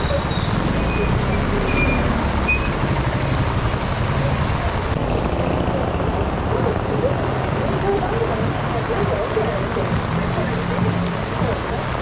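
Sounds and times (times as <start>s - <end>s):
heavy rain on street: 0.0s - 12.0s.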